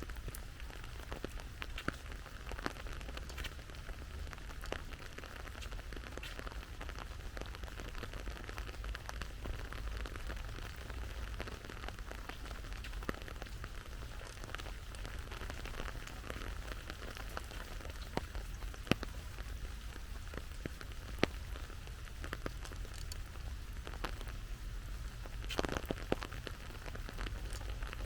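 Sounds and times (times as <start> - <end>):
rain hissing: 0.0 - 28.0
raindrops tapping: 0.0 - 28.0.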